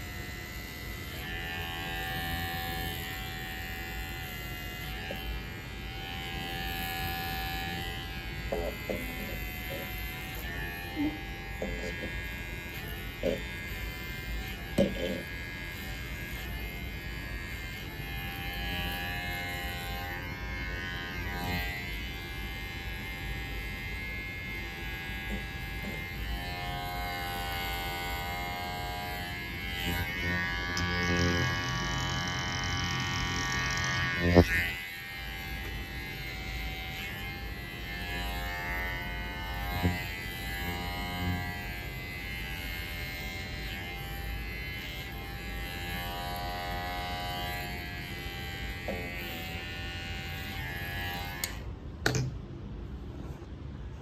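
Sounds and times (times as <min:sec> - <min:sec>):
electric hair clipper buzzing: 0:00.0 - 0:52.3.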